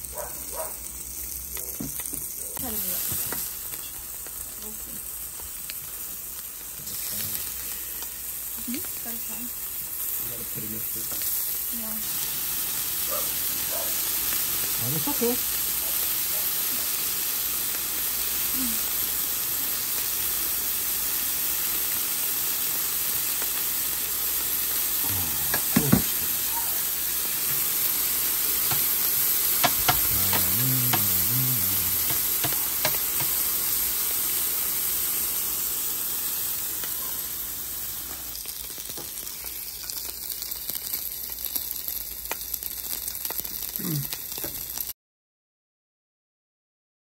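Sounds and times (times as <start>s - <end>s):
meat sizzling on a grill: 0.0s - 45.0s.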